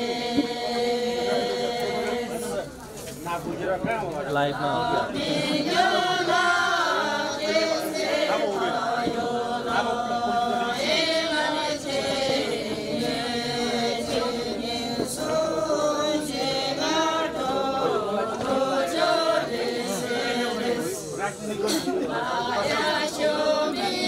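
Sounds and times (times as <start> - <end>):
group singing unaccompanied: 0.0 - 24.0.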